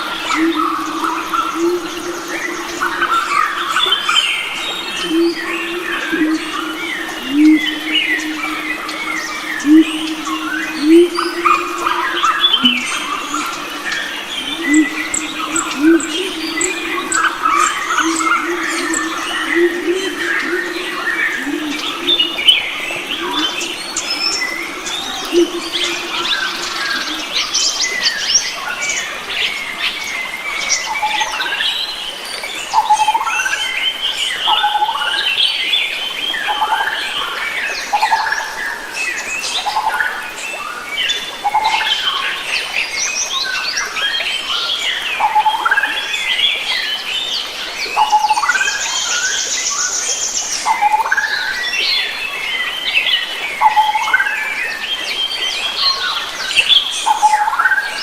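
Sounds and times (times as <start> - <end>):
wild birds singing and calling: 0.0 - 58.0.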